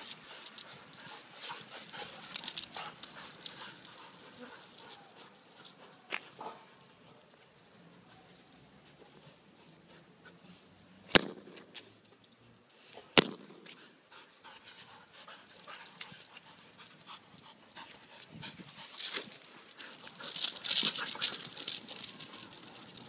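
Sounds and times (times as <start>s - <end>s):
dogs panting: 0.0s - 10.8s, 12.9s - 23.0s.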